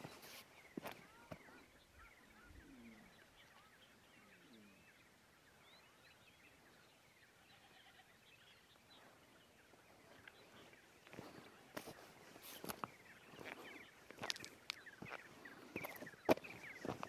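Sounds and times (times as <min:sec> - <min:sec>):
distant birds chirping: 0:00.0 - 0:17.0.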